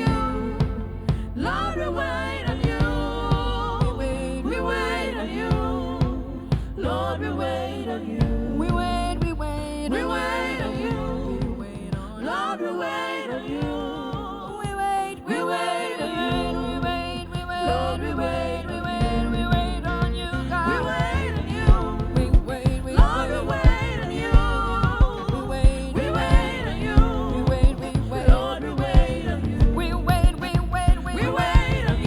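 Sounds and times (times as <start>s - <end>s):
low bass line: 0.0s - 12.0s, 16.3s - 32.0s
person singing: 0.0s - 32.0s.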